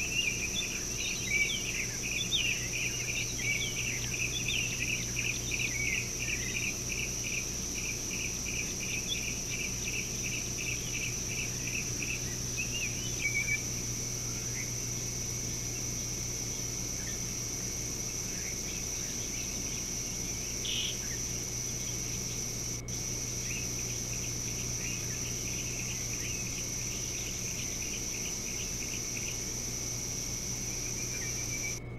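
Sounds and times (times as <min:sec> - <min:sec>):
high-pitched insect drone: 0:00.0 - 0:31.8
low steady hum: 0:00.0 - 0:31.9.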